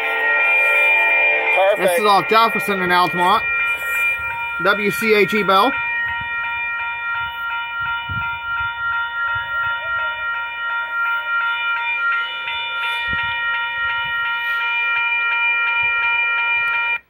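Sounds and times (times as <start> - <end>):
electronic crossing bell ringing: 0.0 - 17.0.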